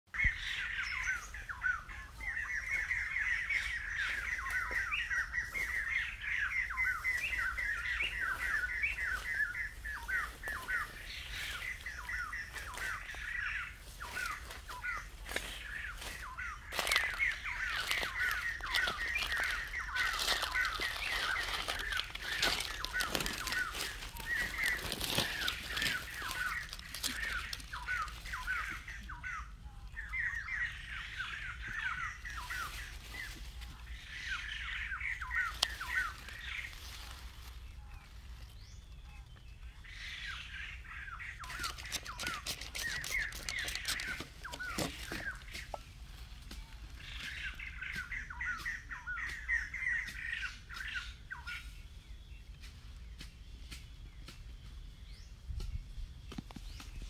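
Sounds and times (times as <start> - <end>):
birds chirping: 0.1 - 57.0
crackling and rustling in dry brush: 0.1 - 57.0.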